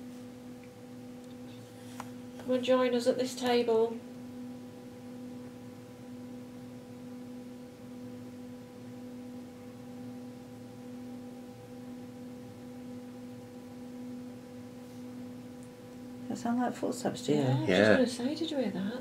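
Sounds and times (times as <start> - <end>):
steady hum of held tones: 0.0 - 19.0.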